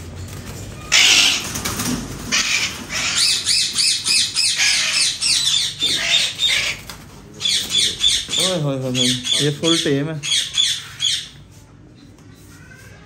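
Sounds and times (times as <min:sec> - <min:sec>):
parrot squawking: 0:00.8 - 0:11.4.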